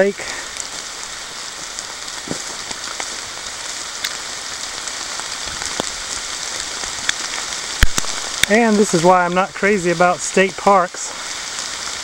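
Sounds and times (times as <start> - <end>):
rain falling on leaves: 0.0 - 12.0
sharp rain taps: 0.0 - 12.0.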